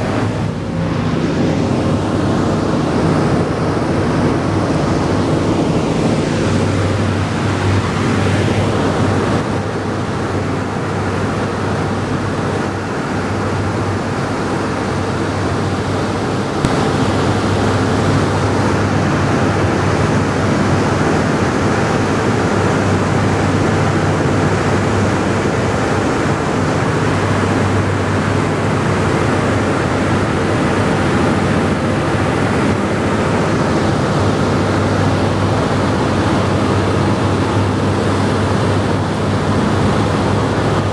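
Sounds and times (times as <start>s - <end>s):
propeller engines droning: 0.0s - 40.9s
rushing slipstream wind: 0.0s - 40.9s.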